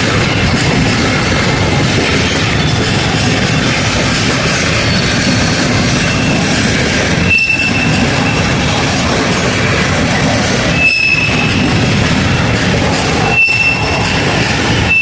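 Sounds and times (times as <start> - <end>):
high wheel squeal: 0.0 - 15.0
train wheels rumbling on rails: 0.0 - 15.0.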